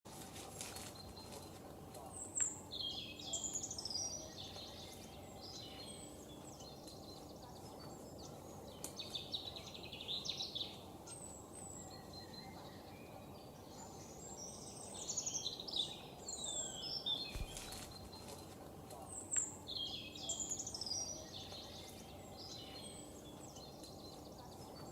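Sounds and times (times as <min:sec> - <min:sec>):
outdoor ambience hiss: 0:00.1 - 0:24.9
songbirds chirping and trilling: 0:00.1 - 0:24.9.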